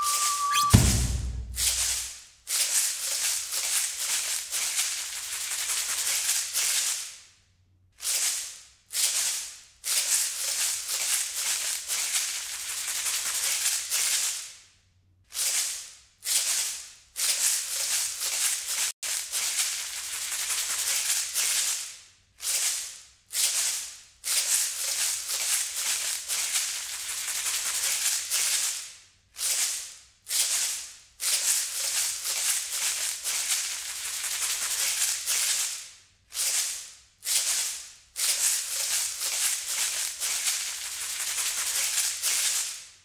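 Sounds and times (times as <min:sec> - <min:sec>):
shaker rattling: 0:00.0 - 0:07.3, 0:08.0 - 0:14.6, 0:15.3 - 0:43.0.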